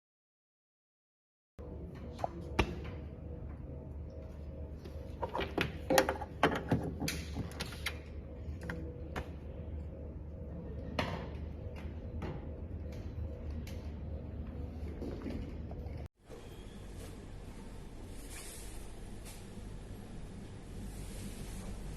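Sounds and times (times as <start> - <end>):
steady electrical hum: 1.6 - 21.9.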